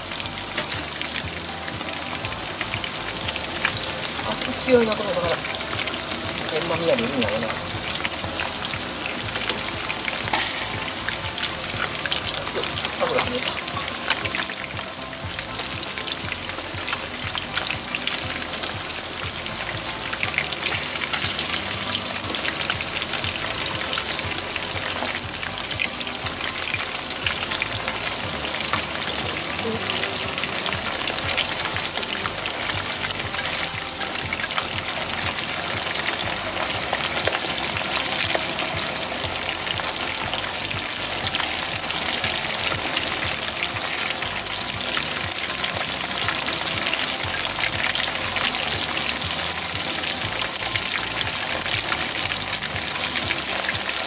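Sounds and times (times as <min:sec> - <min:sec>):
food deep-frying in oil: 0:00.0 - 0:54.0.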